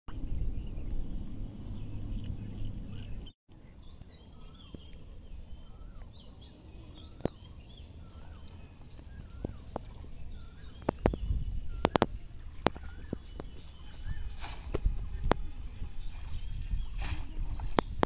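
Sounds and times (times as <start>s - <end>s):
low rumbling: 0.1s - 18.0s
birds chirping and whistling: 0.2s - 18.0s.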